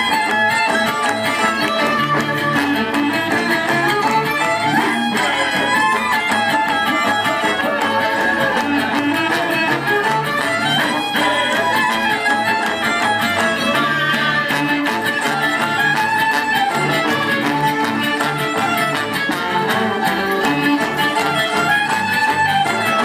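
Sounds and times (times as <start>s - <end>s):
folk band playing: 0.0s - 23.0s
violin: 0.0s - 23.0s.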